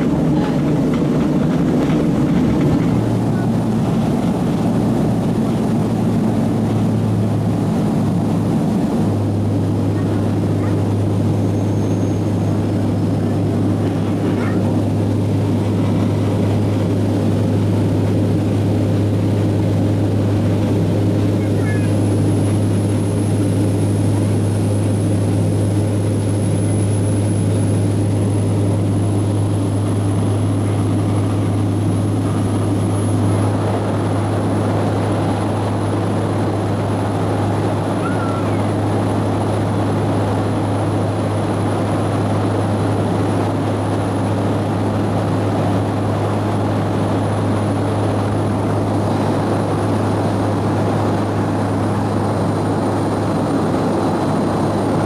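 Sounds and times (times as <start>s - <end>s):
aircraft engine drone: 0.0s - 55.0s
low hum: 0.0s - 55.0s
rushing airflow: 0.0s - 55.0s.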